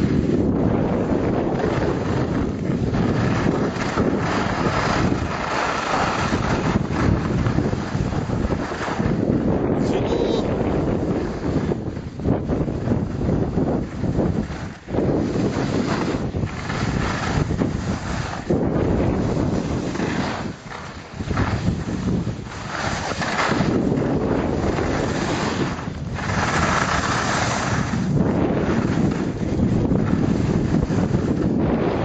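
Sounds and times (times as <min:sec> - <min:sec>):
wind buffeting microphone: 0:00.0 - 0:32.0
skis hissing over snow: 0:01.6 - 0:09.2, 0:12.7 - 0:31.5.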